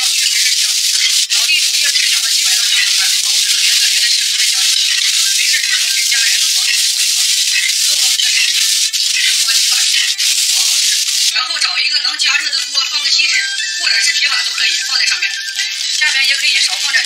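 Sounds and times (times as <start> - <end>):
food sizzling in hot oil: 0.0 - 11.3, 13.7 - 17.0.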